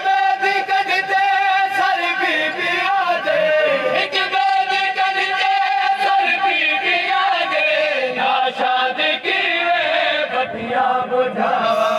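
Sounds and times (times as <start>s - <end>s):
men chanting a lament: 0.0s - 11.9s.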